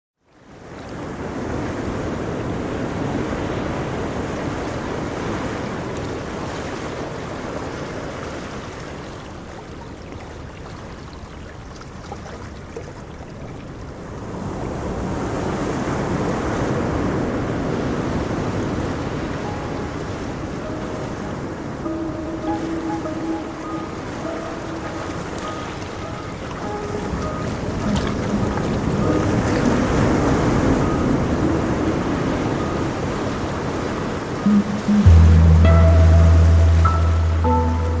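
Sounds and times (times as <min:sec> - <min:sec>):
ocean waves rushing: 0:00.8 - 0:09.6, 0:14.0 - 0:38.0.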